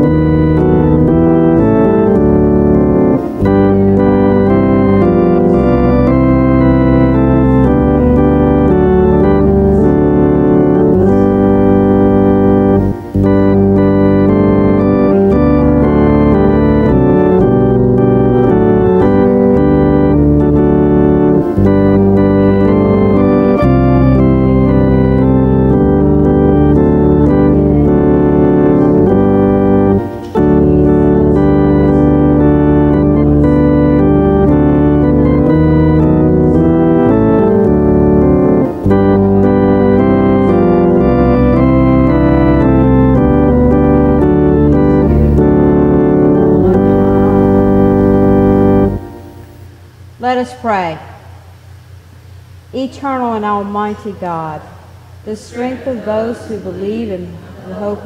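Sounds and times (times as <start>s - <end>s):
church organ playing hymn: 0.0s - 49.8s.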